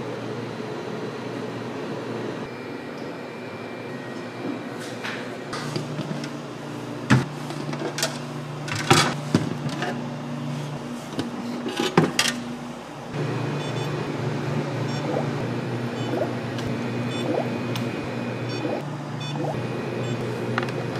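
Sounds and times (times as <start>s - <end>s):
low electrical hum of machines: 0.0s - 20.9s.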